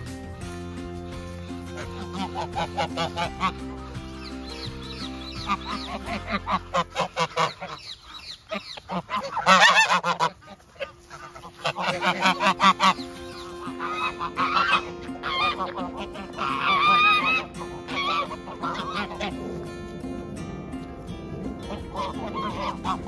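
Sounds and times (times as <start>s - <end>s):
geese honking and cackling: 1.0s - 20.0s, 20.8s - 23.0s.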